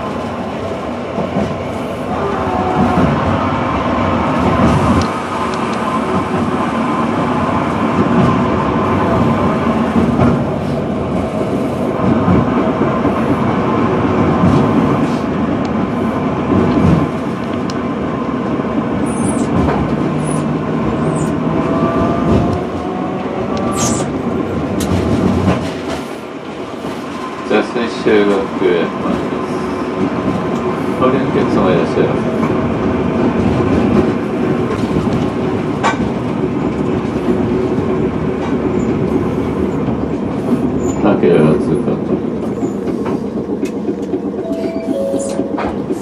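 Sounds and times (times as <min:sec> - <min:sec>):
streetcar wheels on rails: 0:00.0 - 0:46.0.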